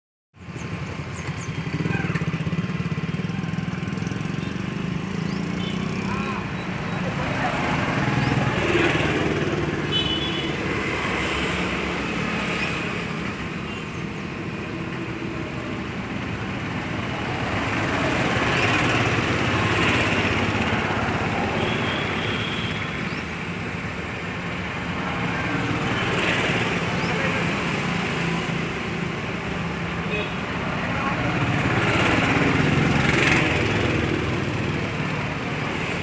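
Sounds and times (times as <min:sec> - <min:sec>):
vehicles passing with rumble: 0:00.4 - 0:36.0.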